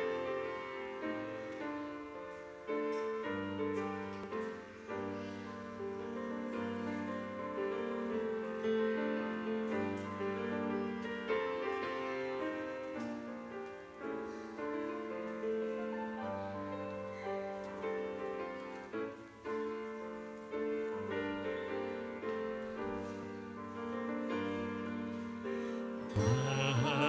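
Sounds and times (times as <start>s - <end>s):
slow piano music: 0.0s - 27.0s.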